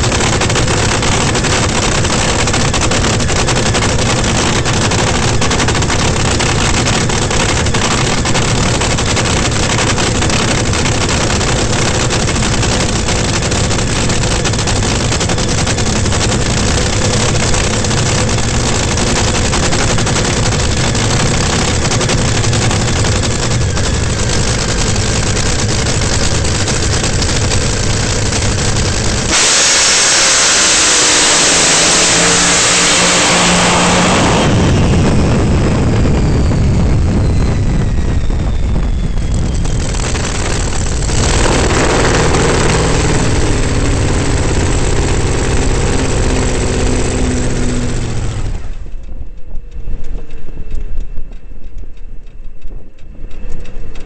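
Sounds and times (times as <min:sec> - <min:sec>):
dragster launching at full throttle: 0:00.0 - 0:49.0
dragster engine idling: 0:00.0 - 0:49.2.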